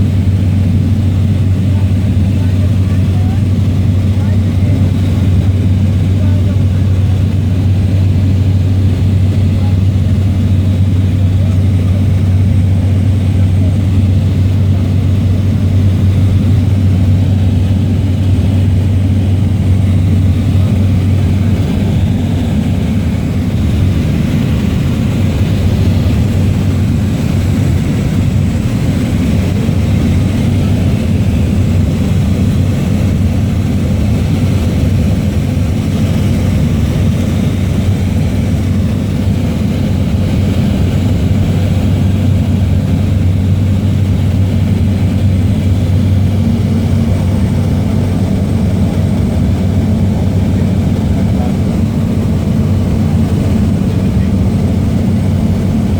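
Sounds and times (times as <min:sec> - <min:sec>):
propeller aircraft engine drone: 0:00.0 - 0:55.9.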